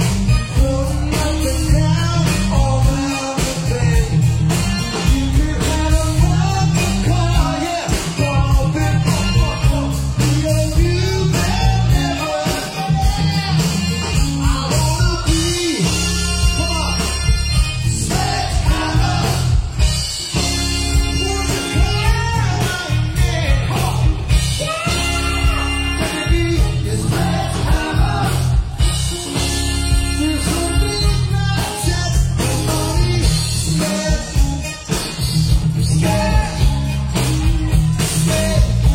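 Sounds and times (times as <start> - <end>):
lead vocals: 0.0 - 35.0, 35.7 - 38.9
bass: 0.0 - 38.9
drums: 0.0 - 38.9
electric guitar: 0.0 - 38.9
horn section: 0.0 - 38.9.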